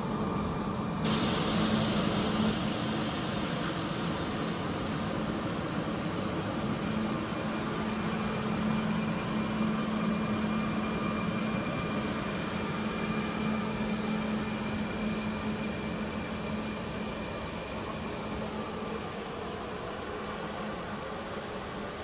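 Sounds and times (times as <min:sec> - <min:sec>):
electric train low hum: 0:00.0 - 0:22.0
train running noise: 0:00.0 - 0:22.0.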